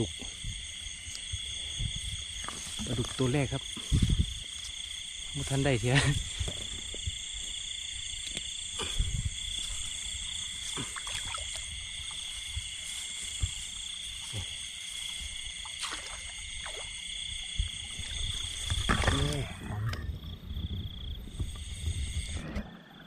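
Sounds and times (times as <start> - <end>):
frogs and insects calling: 0.0 - 23.0.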